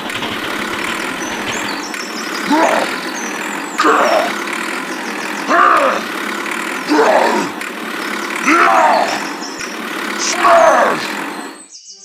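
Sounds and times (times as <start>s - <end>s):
engine running with pulsing tone: 0.0s - 11.8s.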